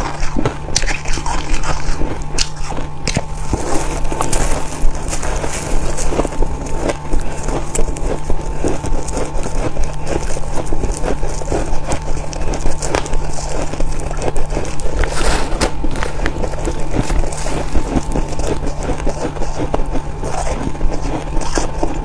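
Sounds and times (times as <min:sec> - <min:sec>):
chewing crunchy frost: 0:00.0 - 0:22.0
low hum: 0:00.0 - 0:22.0.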